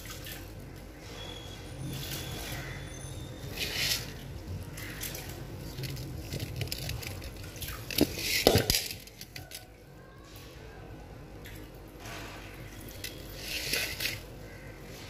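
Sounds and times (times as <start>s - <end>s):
wet prawns squishing: 0.0s - 9.8s, 12.4s - 15.0s.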